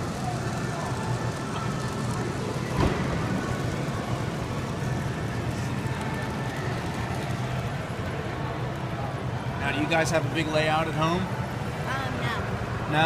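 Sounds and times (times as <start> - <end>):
model train humming and rumbling: 0.0 - 13.0.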